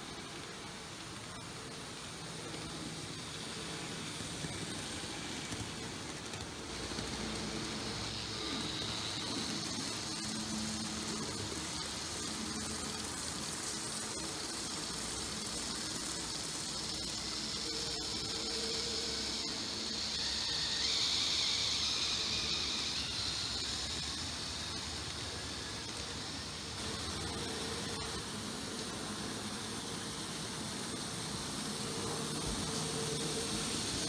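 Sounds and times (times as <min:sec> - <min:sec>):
faint shifting whine: 0:00.0 - 0:34.0
model train motors whirring: 0:00.0 - 0:34.0.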